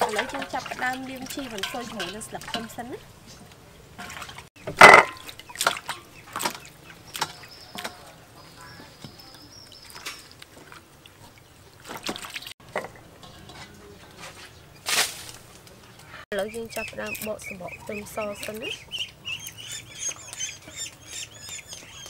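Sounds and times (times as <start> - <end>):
water sloshing in metal bowl: 0.0 - 15.7, 16.4 - 22.0.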